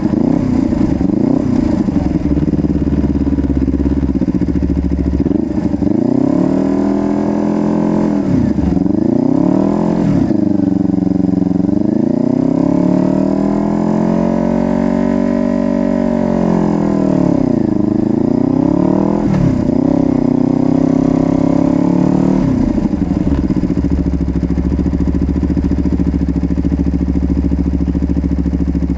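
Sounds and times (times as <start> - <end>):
motorcycle engine revving and idling: 0.0 - 28.9.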